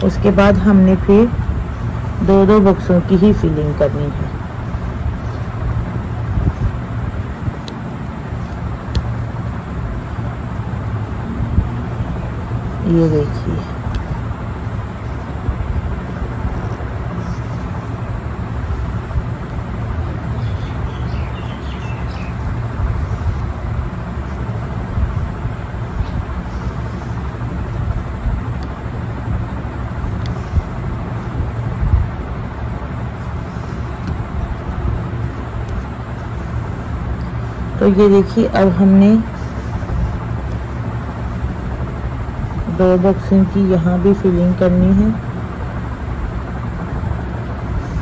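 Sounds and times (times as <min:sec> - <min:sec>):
low background rumble: 0:00.0 - 0:48.0.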